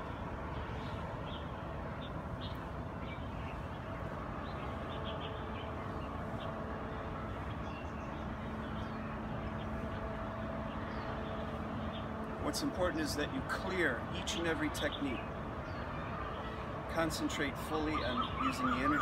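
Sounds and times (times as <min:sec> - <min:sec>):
birds chirping: 0:00.0 - 0:19.0
distant traffic: 0:00.0 - 0:19.0.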